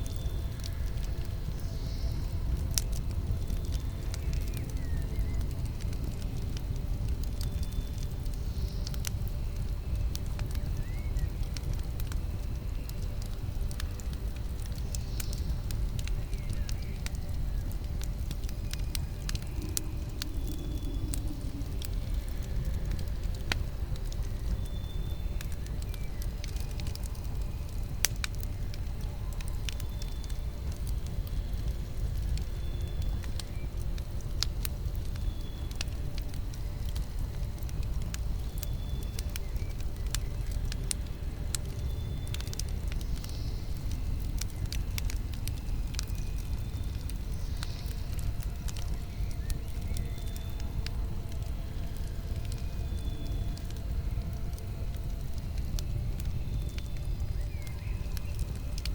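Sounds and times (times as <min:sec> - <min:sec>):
campfire crackling and popping: 0:00.0 - 0:58.9
campfire low rush: 0:00.0 - 0:58.9.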